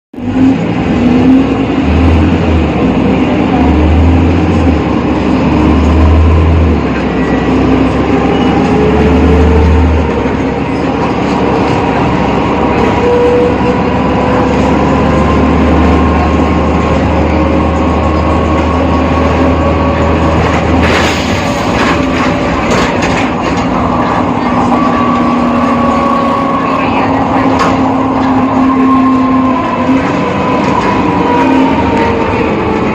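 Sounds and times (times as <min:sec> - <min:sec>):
bus engine throbbing drone: 0:00.2 - 0:32.9.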